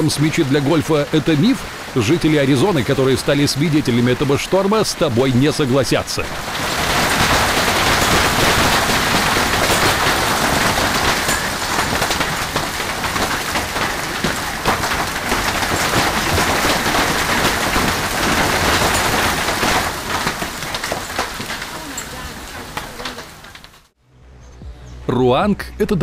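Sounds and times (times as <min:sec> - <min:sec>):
large hail pelting down: 0:00.0 - 0:24.0.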